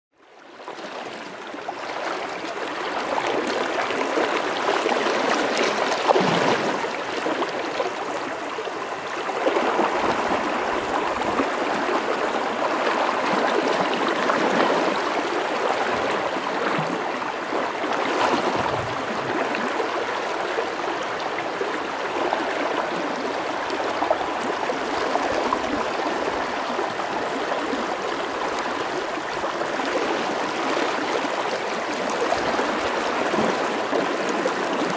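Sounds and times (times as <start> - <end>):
river flowing over riffles: 0.2 - 34.9.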